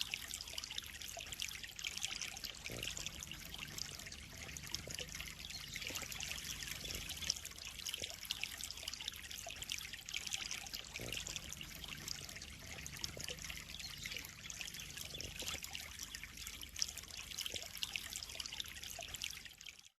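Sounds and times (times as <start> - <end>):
water trickling into pond: 0.0 - 20.0.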